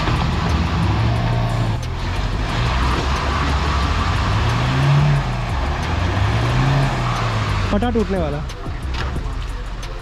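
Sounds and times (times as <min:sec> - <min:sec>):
engine revving under load: 0:00.0 - 0:09.1.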